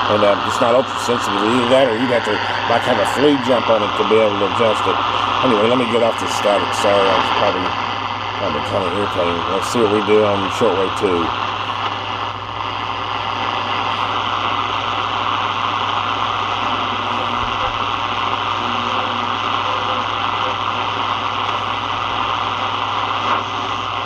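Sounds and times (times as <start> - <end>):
low hum: 0.0 - 24.0
radio static hissing: 0.0 - 24.0.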